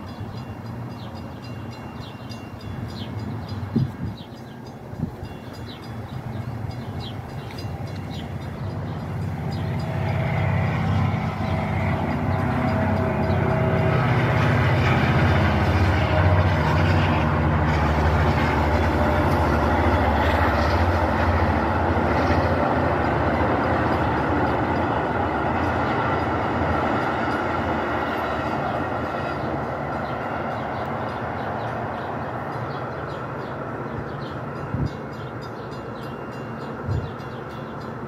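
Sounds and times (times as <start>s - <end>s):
train passing: 0.0s - 38.0s.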